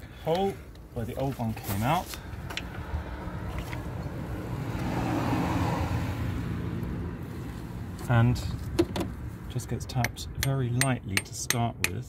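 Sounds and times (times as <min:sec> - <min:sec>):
vehicle engine humming: 0:00.0 - 0:11.2.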